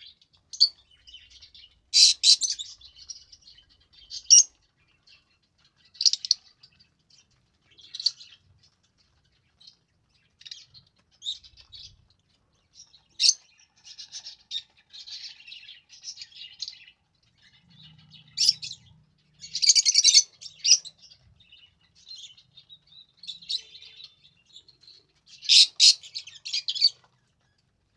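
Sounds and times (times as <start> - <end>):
budgies chirping: 0.0 - 27.7.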